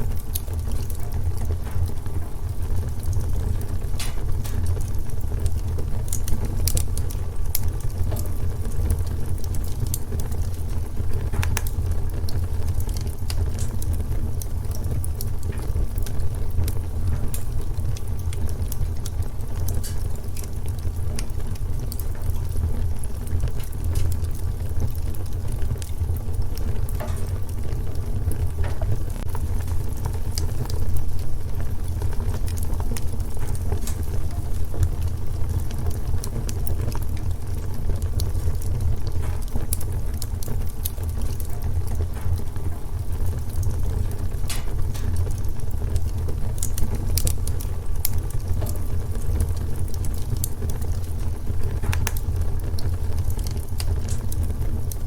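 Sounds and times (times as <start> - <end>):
fire crackles and pops: 0.0 - 55.0
fire rumbling in fireplace: 0.0 - 55.0.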